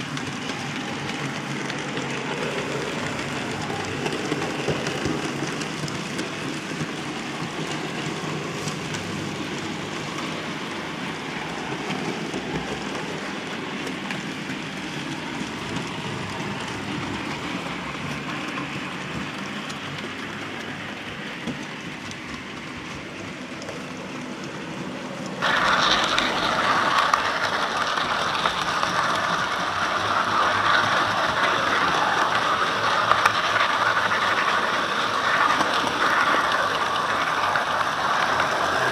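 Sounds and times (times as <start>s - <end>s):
model train rolling on track: 0.0s - 38.9s
wheels clicking on track: 0.0s - 38.9s.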